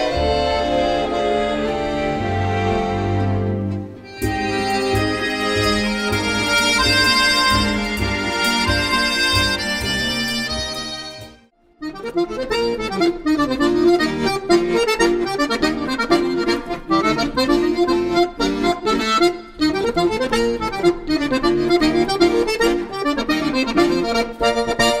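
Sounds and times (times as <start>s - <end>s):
button accordion playing fast tune: 0.0s - 25.0s.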